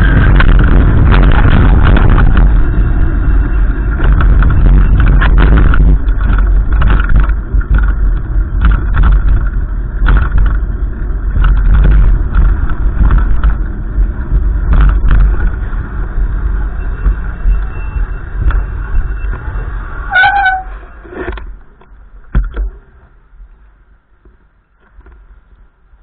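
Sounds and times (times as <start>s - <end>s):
gusty wind buffeting microphone: 0.0s - 26.0s.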